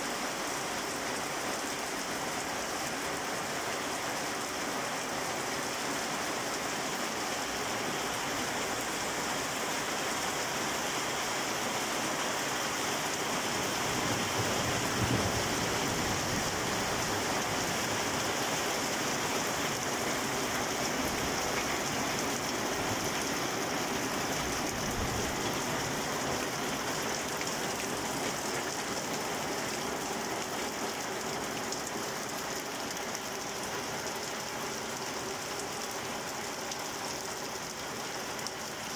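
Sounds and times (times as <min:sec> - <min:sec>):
rain on paving and plants: 0:00.0 - 0:38.9.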